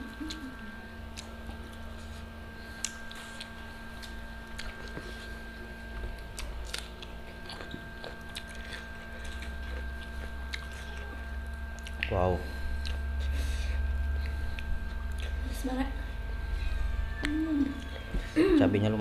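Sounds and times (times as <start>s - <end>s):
steady low hum: 0.0s - 19.0s
chewing grilled chicken: 0.1s - 15.5s.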